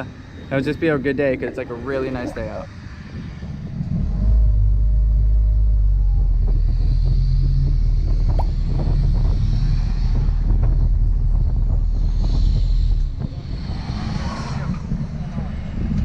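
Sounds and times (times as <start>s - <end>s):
outboard motor running: 2.6s - 16.0s.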